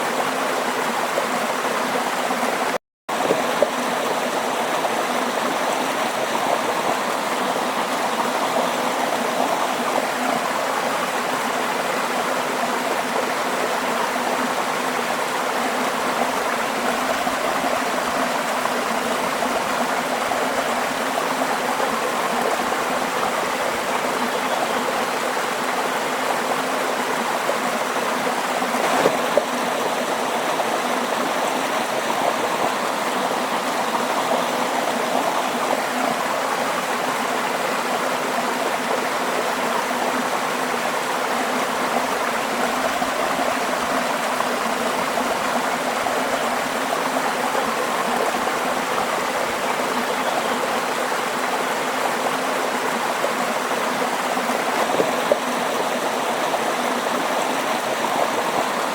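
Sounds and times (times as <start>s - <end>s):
stream water babbling: 0.0s - 58.9s.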